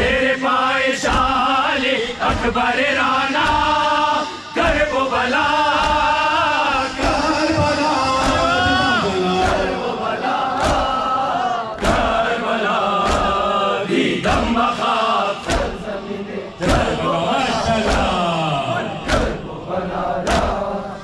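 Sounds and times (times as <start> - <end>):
crowd of men chanting: 0.0 - 21.0
men singing lament over loudspeaker: 0.0 - 21.0.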